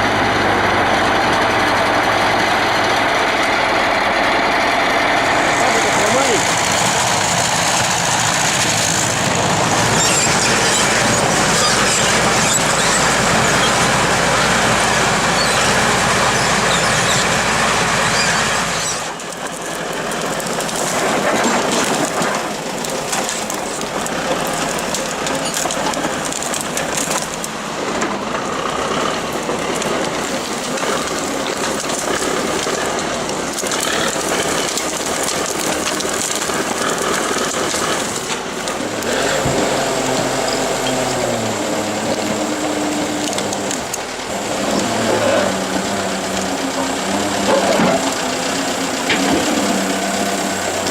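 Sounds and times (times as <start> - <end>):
machinery engine running: 0.0 - 50.9.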